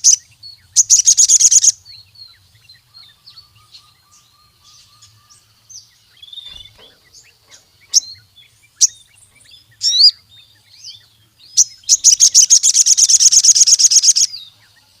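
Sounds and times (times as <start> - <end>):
bird singing chips and trill: 0.0 - 15.0.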